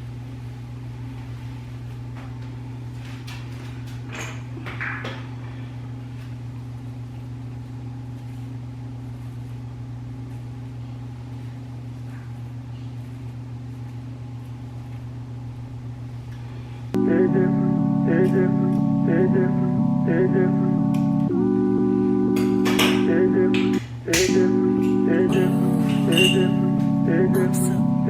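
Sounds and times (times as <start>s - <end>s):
low electrical motor hum: 0.0s - 28.0s.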